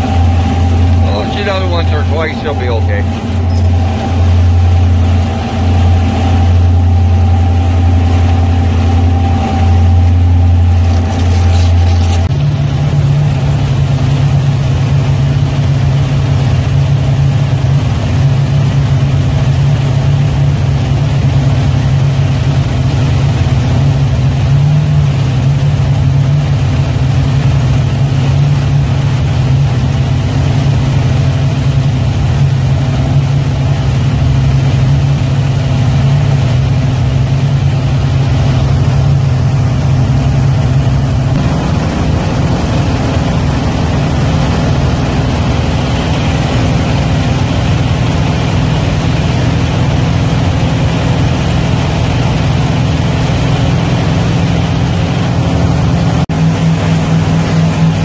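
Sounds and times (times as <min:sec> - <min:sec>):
boat engines droning: 0:00.0 - 0:58.0.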